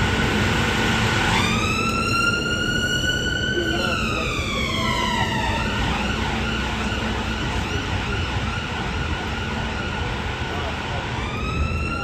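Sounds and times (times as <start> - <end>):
emergency vehicle siren: 0.0 - 12.0
street traffic rumble: 0.0 - 12.0.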